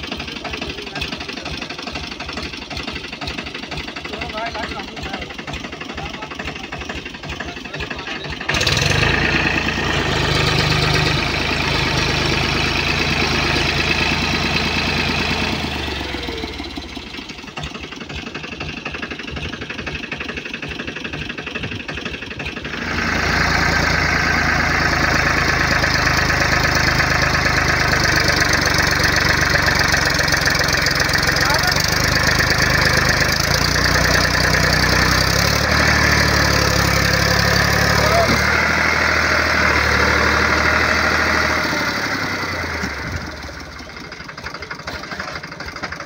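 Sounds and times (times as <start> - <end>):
tractor diesel engine revving: 0.0 - 46.0.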